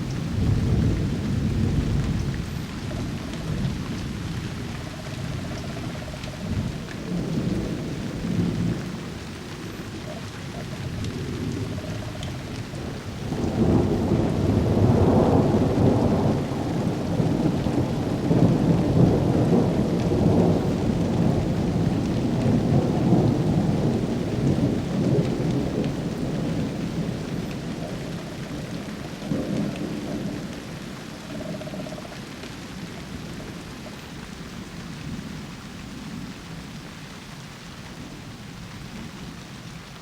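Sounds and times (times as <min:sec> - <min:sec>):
rolling thunder: 0:00.0 - 0:32.4
steady rain: 0:00.0 - 0:40.0.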